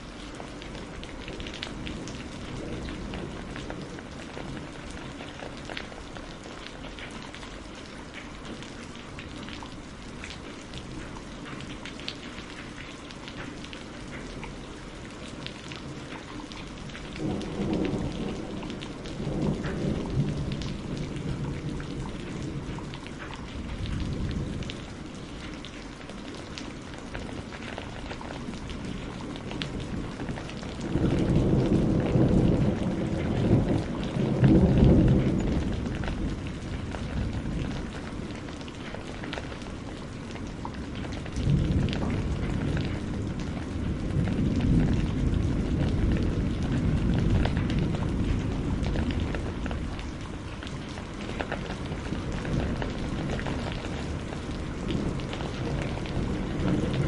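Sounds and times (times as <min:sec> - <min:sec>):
thunder rumbling: 0:00.0 - 0:07.6, 0:15.3 - 0:25.6, 0:26.3 - 0:57.0
raindrops ticking: 0:00.0 - 0:57.0
steady rain falling: 0:00.0 - 0:57.0.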